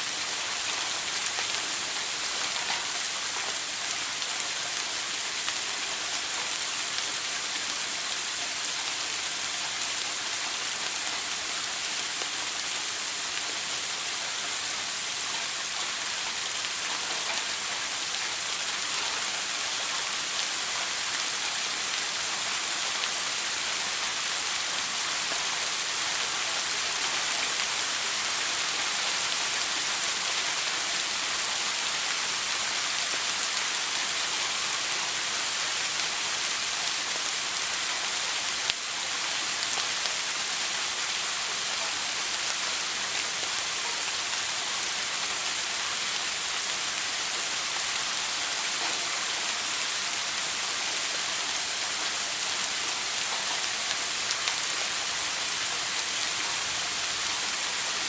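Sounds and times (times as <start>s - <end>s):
shower running: 0.0s - 58.0s.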